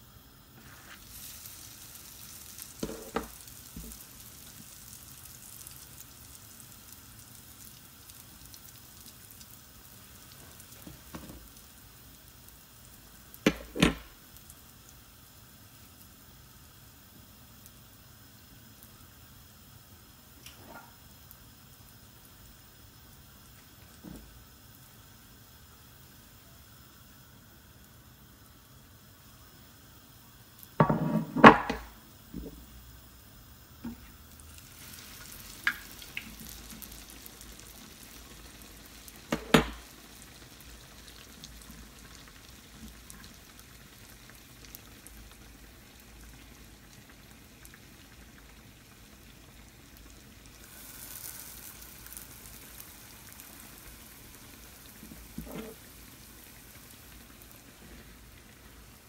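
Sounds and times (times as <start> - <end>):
dough deep-frying in oil: 0.0 - 59.0.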